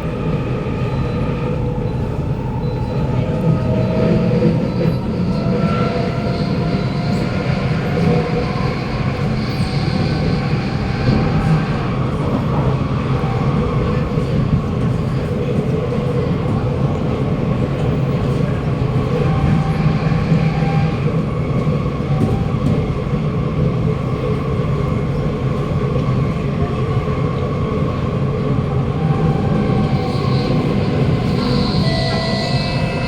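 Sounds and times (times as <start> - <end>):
metro car rumble: 0.0 - 33.0.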